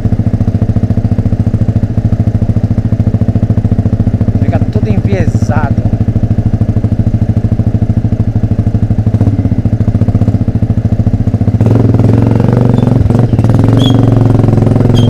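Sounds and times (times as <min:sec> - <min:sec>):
motorcycle with open exhaust: 0:00.0 - 0:15.0.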